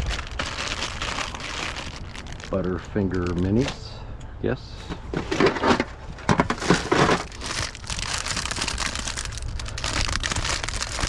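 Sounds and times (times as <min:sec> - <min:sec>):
plastic packaging crinkling: 0:00.0 - 0:03.7, 0:05.1 - 0:11.0.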